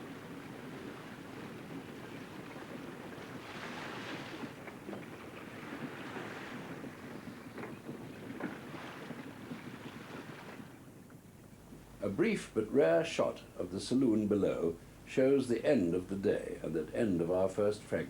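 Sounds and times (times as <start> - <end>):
water rushing along hull: 0.0 - 18.0
wind: 0.0 - 18.0.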